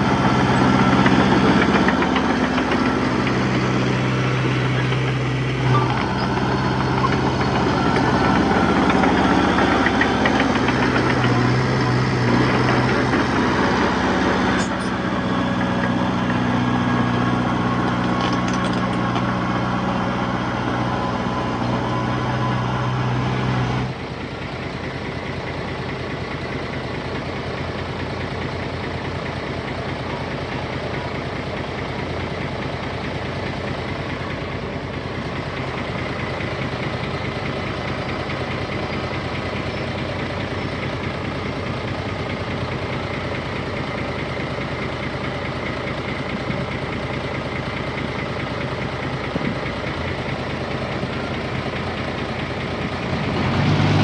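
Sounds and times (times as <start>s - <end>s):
diesel engine running at low speed: 0.0s - 54.0s.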